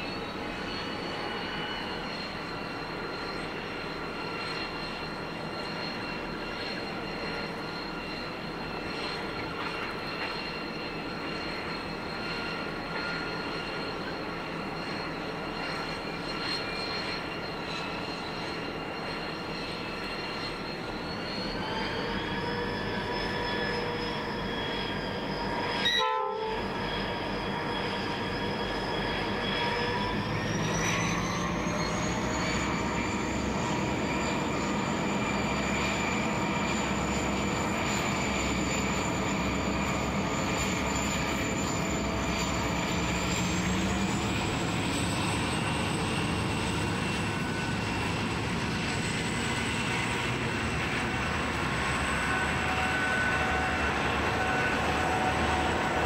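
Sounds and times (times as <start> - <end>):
diesel locomotives under load: 0.0 - 56.0.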